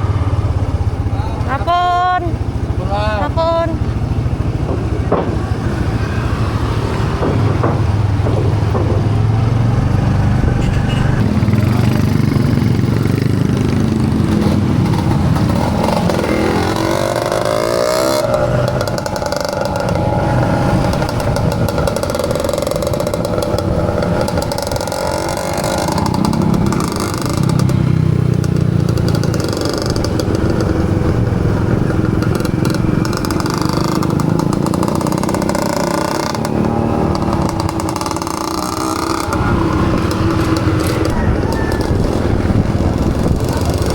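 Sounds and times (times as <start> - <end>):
small motorcycle engine running: 2.3 - 43.9.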